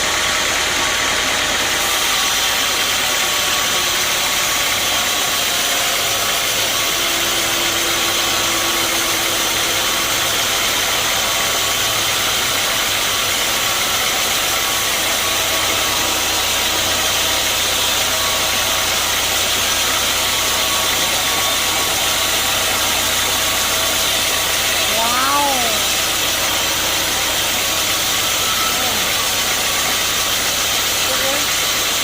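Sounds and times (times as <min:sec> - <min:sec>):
sawmill machinery drone and hiss: 0:00.0 - 0:32.0.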